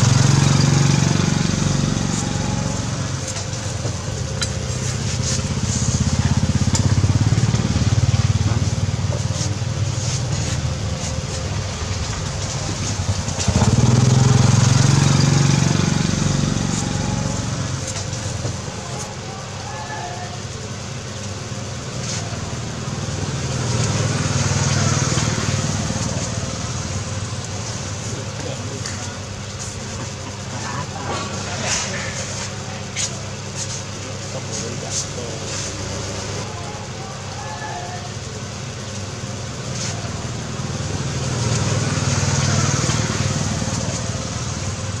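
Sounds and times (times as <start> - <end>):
motor vehicle passing: 0.0 - 19.4, 20.6 - 37.3, 38.0 - 45.0
street traffic noise: 0.0 - 45.0.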